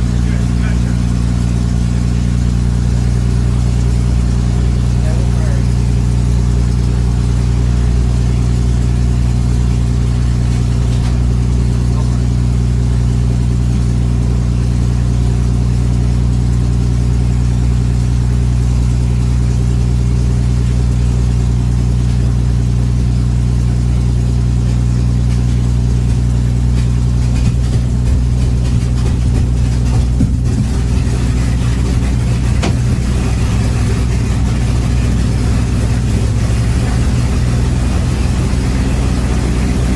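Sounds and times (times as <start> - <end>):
aircraft piston engine droning: 0.0 - 14.5, 18.0 - 39.9.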